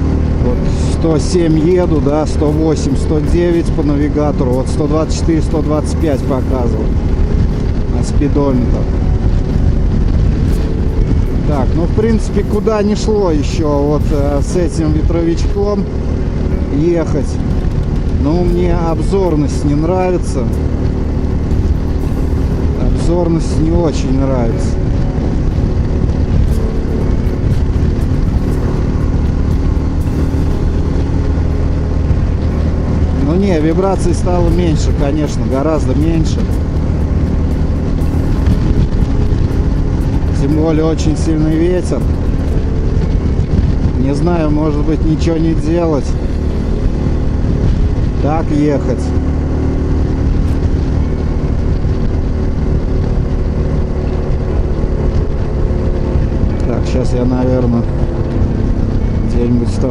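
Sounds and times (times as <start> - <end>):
heavy wind noise: 0.0 - 59.9
motorcycle engine cruising: 0.0 - 59.9.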